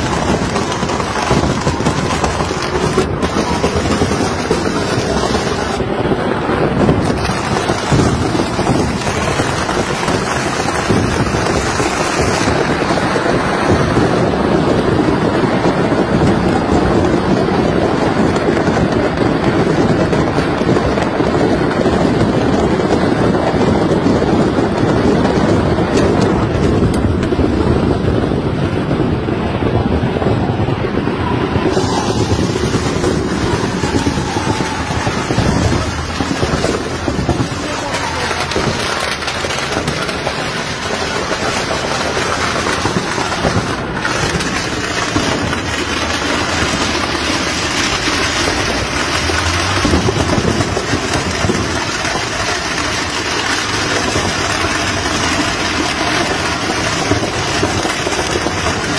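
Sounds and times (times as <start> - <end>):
fireworks crackling and banging: 0.0 - 58.9.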